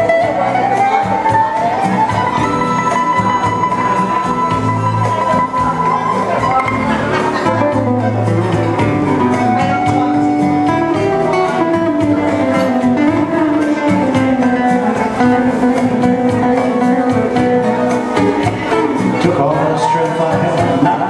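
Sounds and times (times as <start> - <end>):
classical guitar playing: 0.0 - 21.0.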